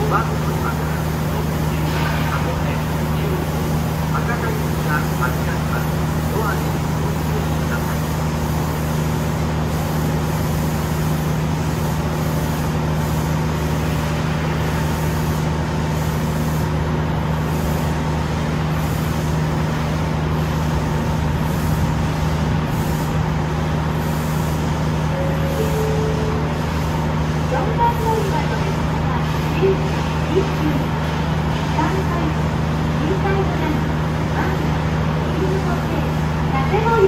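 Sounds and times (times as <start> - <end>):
diesel railcar engine idling: 0.0 - 37.0.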